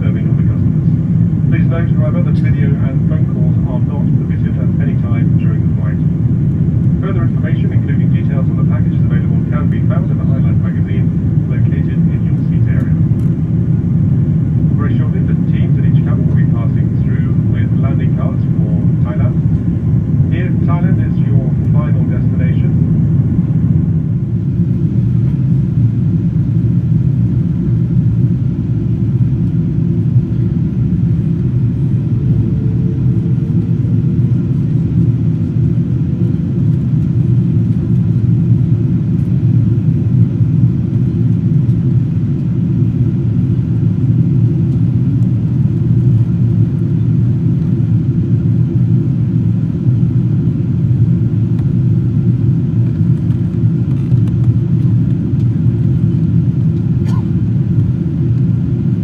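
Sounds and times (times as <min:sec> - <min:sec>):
airplane cabin engine drone: 0:00.0 - 0:59.0.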